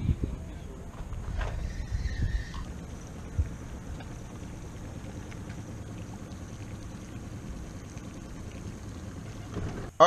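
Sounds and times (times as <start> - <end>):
boat engine low rumble: 0.0 - 10.0
water hissing: 1.3 - 10.0.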